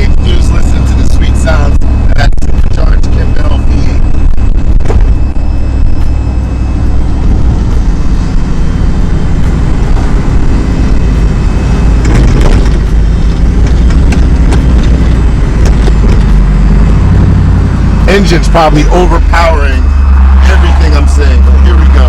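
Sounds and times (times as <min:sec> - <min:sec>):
engine rumbling inside cab: 0:00.0 - 0:22.0.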